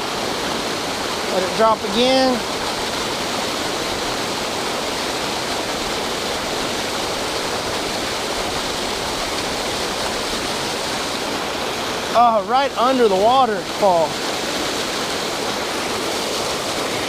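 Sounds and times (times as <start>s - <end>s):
water pouring over waterfall: 0.0s - 17.0s.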